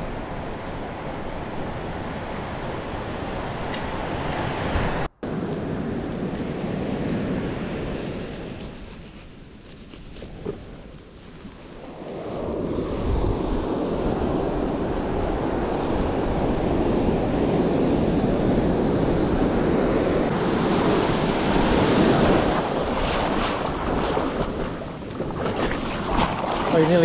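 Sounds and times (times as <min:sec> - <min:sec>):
ocean surf washing ashore: 0:00.0 - 0:08.9, 0:11.4 - 0:27.0
wind buffeting microphone: 0:00.0 - 0:27.0.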